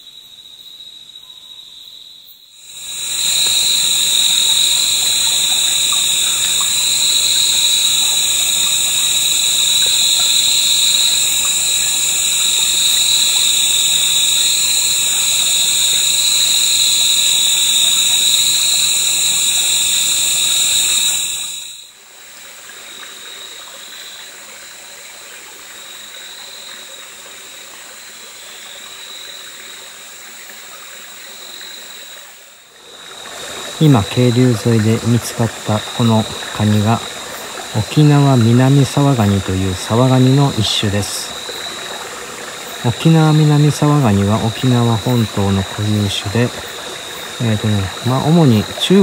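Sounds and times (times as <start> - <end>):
crickets and katydids trilling: 0.0 - 49.0
stream trickling: 2.6 - 49.0.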